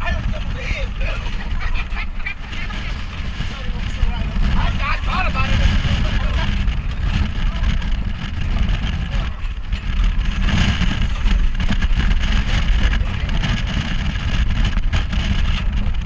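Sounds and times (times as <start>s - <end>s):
vehicle rumbling on dirt track: 0.0s - 16.0s.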